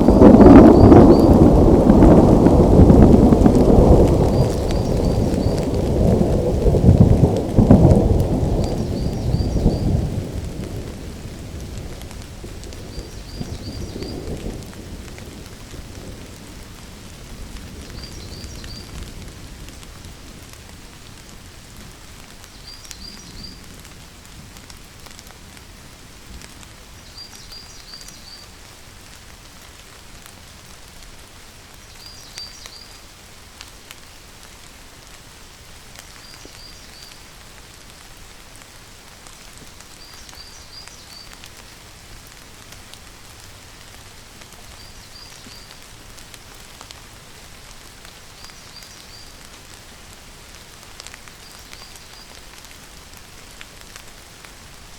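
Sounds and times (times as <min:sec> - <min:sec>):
rain pattering: 0:00.0 - 0:54.9.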